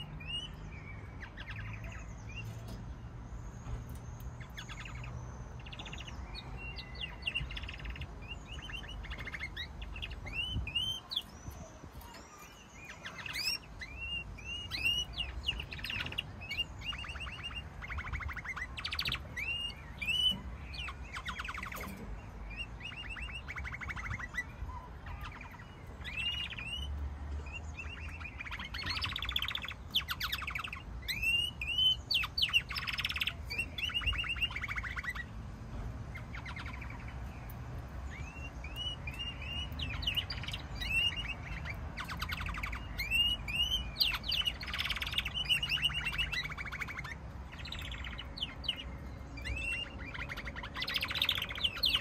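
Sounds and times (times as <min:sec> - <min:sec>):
canaries singing: 0:00.0 - 0:52.0.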